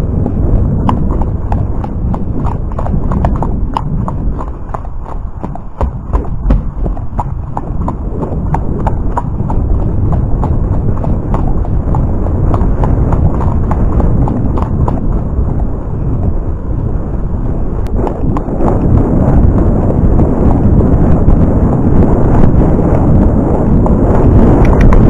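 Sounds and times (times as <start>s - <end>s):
horse hooves clip-clopping: 0.0s - 16.8s, 17.8s - 25.0s
wind noise on microphone: 0.0s - 25.0s.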